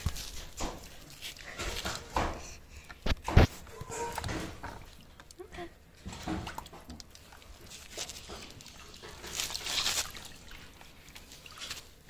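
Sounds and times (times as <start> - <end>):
water splashing in plastic basin: 0.0 - 12.0.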